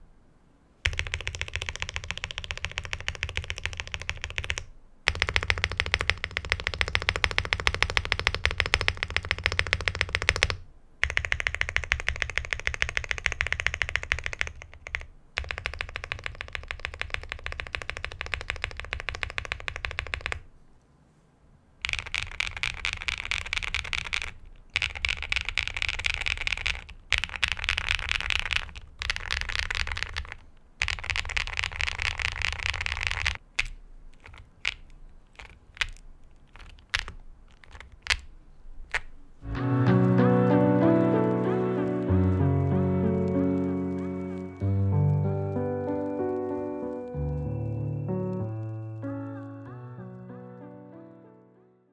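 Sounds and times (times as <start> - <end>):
mechanical keyboard typing: 0.8 - 20.5, 21.8 - 39.1, 41.3 - 49.5.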